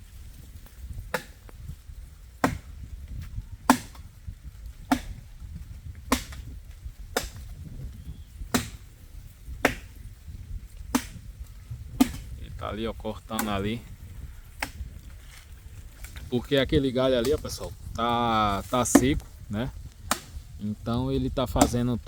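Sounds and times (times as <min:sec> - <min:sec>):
blade chopping tree branch: 0:00.6 - 0:01.7, 0:02.3 - 0:16.3, 0:17.0 - 0:20.6, 0:21.2 - 0:22.0.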